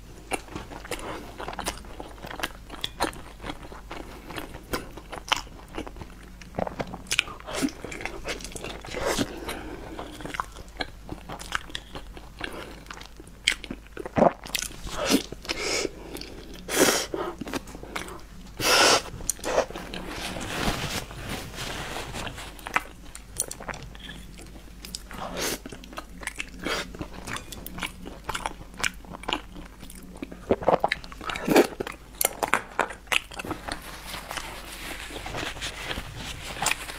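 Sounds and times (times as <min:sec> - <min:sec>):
wet chewing: 0:00.2 - 0:16.7, 0:22.1 - 0:36.9.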